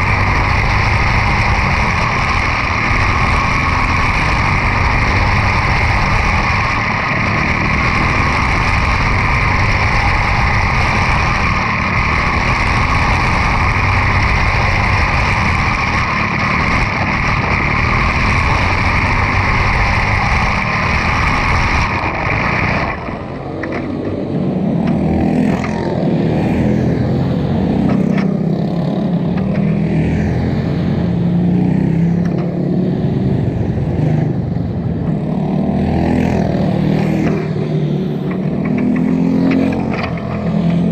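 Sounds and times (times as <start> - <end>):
race car engines high-pitched drone: 0.0 - 40.9.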